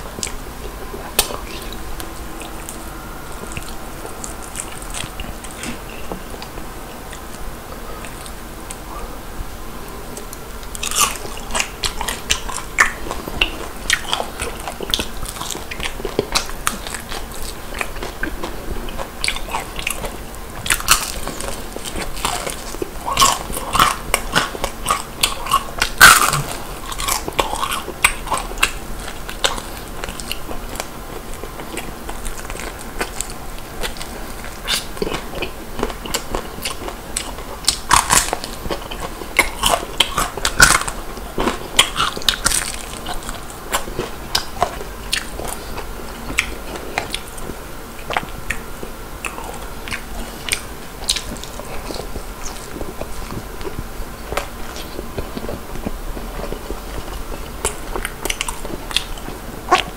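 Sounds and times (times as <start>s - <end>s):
crunching fried chicken: 0.0s - 8.8s, 10.1s - 59.9s.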